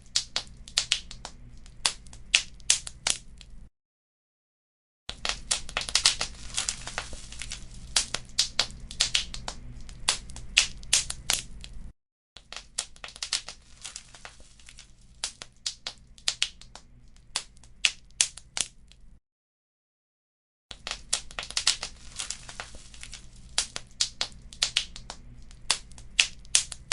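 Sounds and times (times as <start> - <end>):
wood fire crackling: 0.0 - 3.6, 5.1 - 11.9, 12.5 - 19.0, 20.7 - 26.9.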